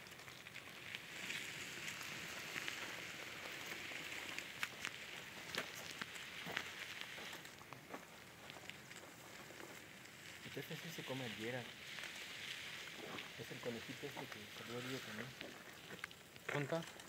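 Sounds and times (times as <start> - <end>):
steady high hiss: 0.0 - 17.0
footsteps on gravel: 0.8 - 17.0.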